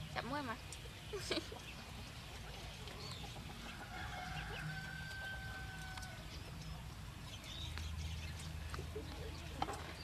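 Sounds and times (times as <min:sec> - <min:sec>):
quails chirping and clucking: 0:00.0 - 0:10.0.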